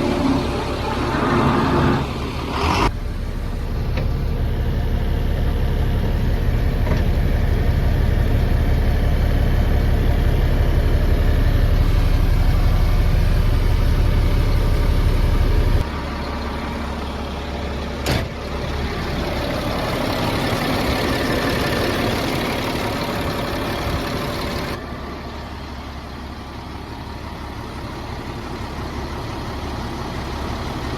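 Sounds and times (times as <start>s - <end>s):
truck diesel engine running: 0.0s - 30.9s.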